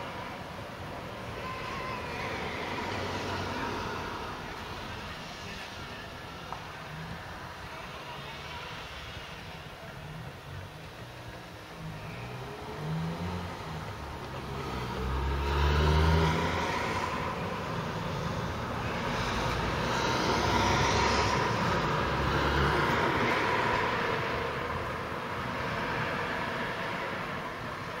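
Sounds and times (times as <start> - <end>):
cars driving past: 0.0 - 28.0
engine rumble and tyre noise: 0.0 - 28.0.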